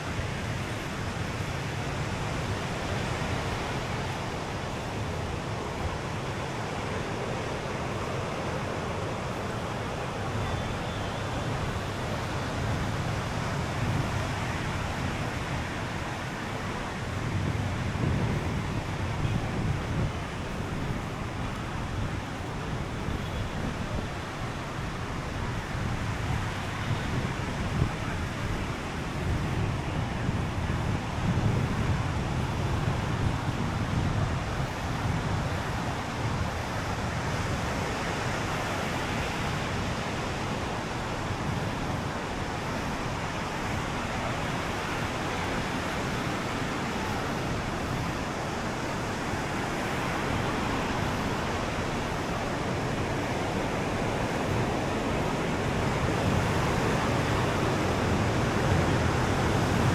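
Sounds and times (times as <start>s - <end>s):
ocean surf on sandy beach: 0.0s - 59.9s
wind on microphone: 0.0s - 59.9s.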